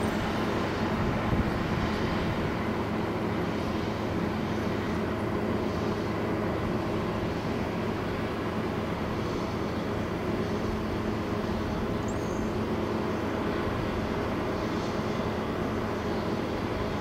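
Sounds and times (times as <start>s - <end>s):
distant engines humming: 0.0s - 17.0s.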